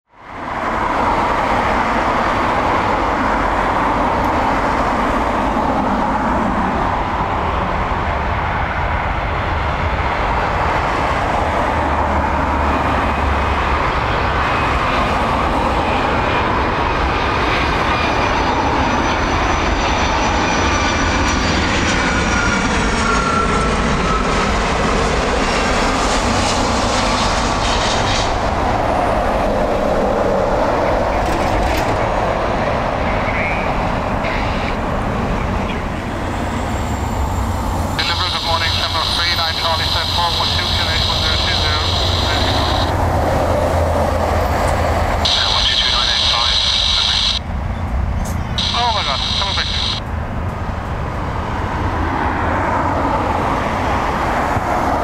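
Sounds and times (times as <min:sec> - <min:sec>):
jet engine whine: 0:00.1 - 0:55.0
jet engines rushing: 0:00.2 - 0:55.0.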